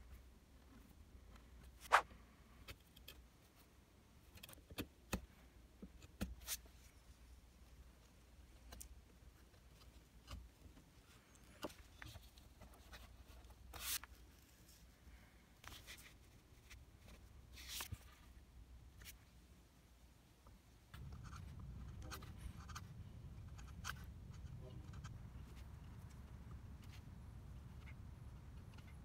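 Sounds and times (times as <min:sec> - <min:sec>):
low room tone hum: 0:00.0 - 0:29.0.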